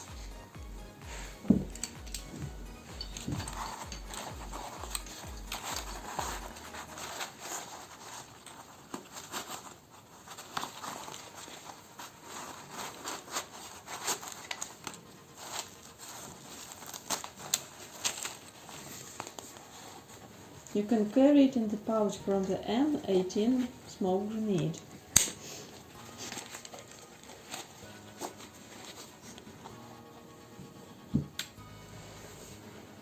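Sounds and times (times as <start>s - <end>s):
fabric pouches rustling: 0.0s - 29.8s.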